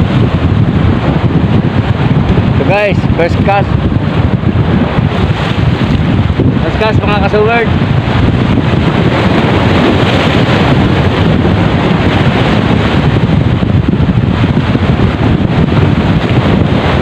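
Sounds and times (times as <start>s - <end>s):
sea waves washing over rocks: 0.0s - 17.0s
strong wind buffeting microphone: 0.0s - 17.0s.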